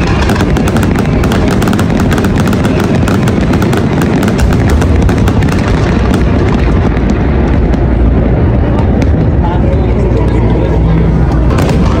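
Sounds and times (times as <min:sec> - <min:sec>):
fireworks booming rumble: 0:00.0 - 0:12.0
fireworks crackling: 0:00.0 - 0:12.0.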